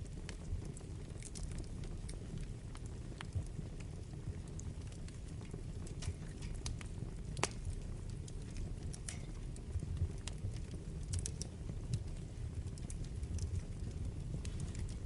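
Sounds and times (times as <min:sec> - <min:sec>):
fire rumbling: 0:00.0 - 0:15.0
logs crackling and popping: 0:00.0 - 0:15.0.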